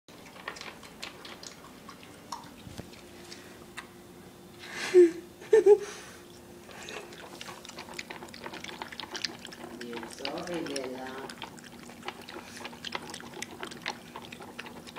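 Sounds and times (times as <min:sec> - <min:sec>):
puppy crunching and chewing: 0:00.1 - 0:04.0, 0:06.7 - 0:14.9.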